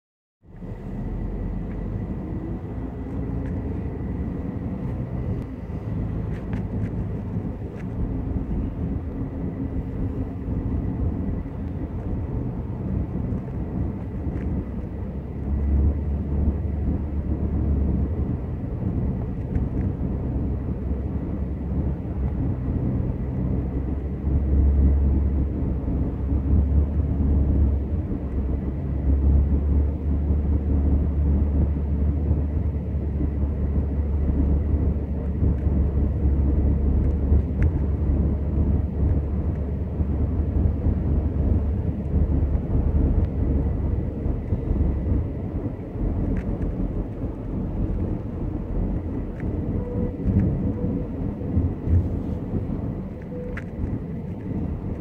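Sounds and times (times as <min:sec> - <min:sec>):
car road and engine rumble: 0:00.4 - 0:55.0.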